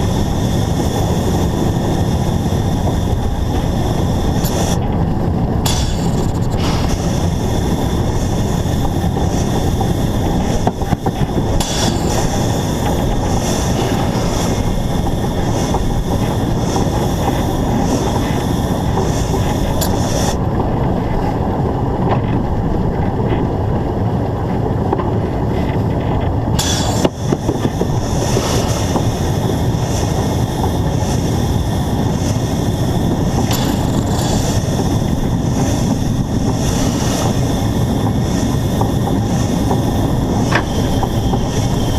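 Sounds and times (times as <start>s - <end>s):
steam hissing: 0.0s - 20.5s, 26.6s - 41.9s
steam locomotive running: 0.0s - 41.9s
wheels on rail: 0.0s - 41.9s.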